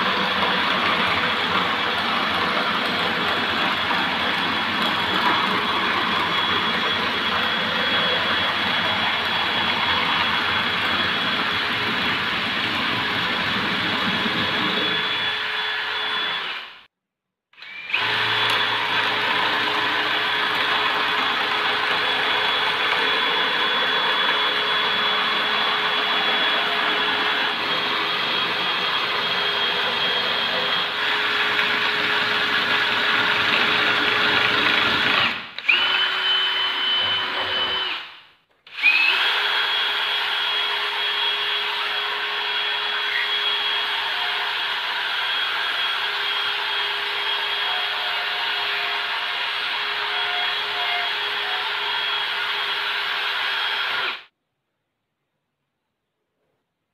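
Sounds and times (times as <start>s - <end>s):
power tool motor whining: 0.0s - 16.8s, 17.6s - 54.3s.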